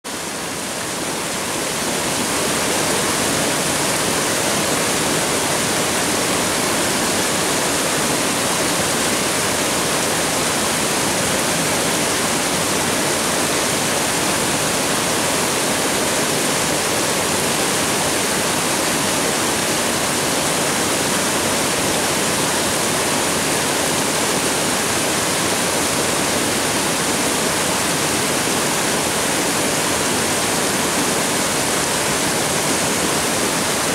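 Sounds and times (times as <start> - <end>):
water cascade rushing: 0.1 - 33.9.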